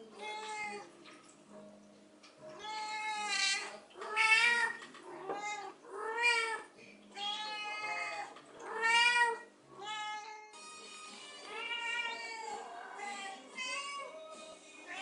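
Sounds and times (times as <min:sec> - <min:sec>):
cats meowing: 0:00.2 - 0:00.9, 0:02.5 - 0:10.5, 0:11.5 - 0:15.0.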